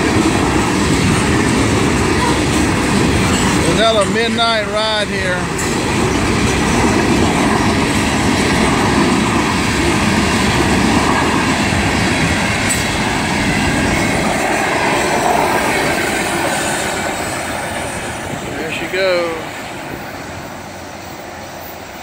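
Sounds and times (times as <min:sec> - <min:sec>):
freight train cars rolling past: 0:00.0 - 0:22.0.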